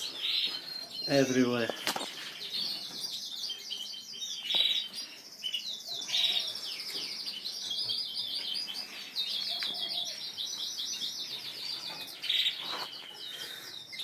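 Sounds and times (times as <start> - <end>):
canaries singing: 0.0 - 14.0.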